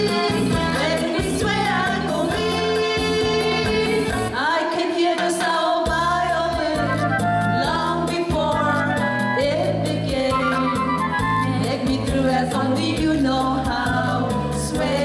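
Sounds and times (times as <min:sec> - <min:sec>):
instrumental accompaniment with beat: 0:00.0 - 0:04.4, 0:05.2 - 0:15.0
women singing pop song: 0:00.0 - 0:15.0.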